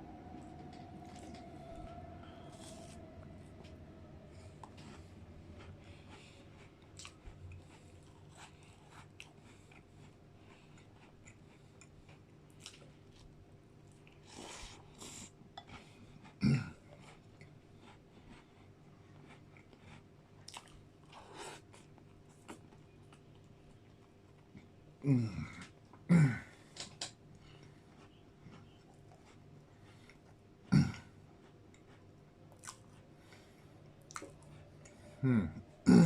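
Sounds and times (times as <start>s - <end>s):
chewing and crunching: 0.6s - 24.8s, 26.7s - 35.6s.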